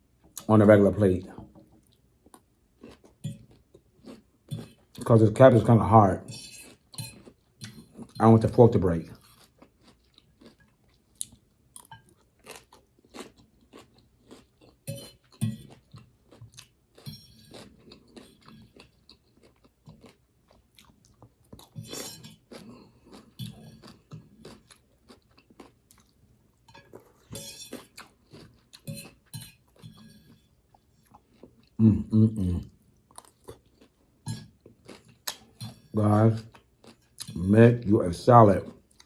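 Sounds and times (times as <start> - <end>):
person chewing crunchy salad: 1.7 - 39.0.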